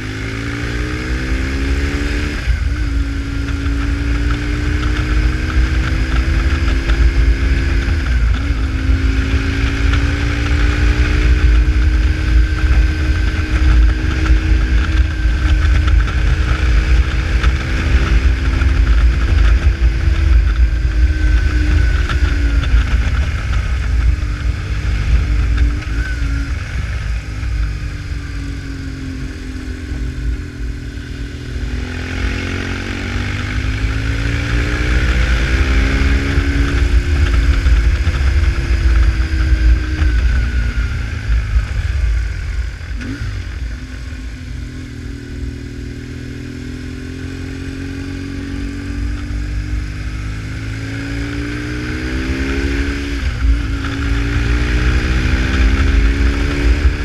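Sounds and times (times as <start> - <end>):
motorcycle engine revving: 0.0 - 57.0
wind rumble on microphone: 0.0 - 57.0.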